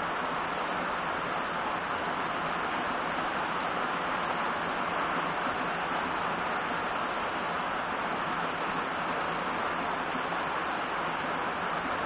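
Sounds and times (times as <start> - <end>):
heavy rain on foliage and road: 0.0 - 12.0.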